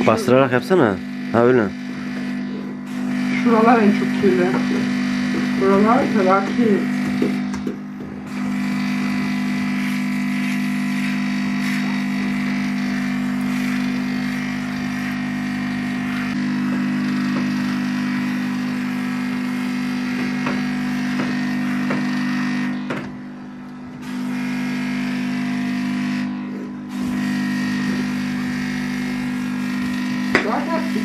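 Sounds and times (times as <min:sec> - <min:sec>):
carpet cleaner pump humming: 0:00.0 - 0:31.0
cleaning solution spraying: 0:00.0 - 0:31.0.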